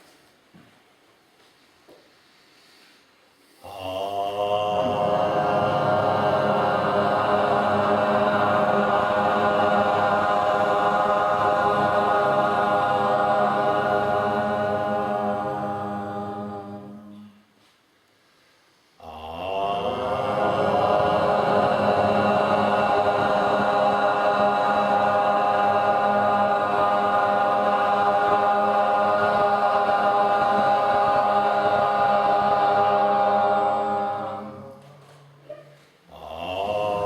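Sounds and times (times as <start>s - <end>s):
group of voices chanting: 3.6s - 17.3s, 19.0s - 35.0s, 36.1s - 37.0s.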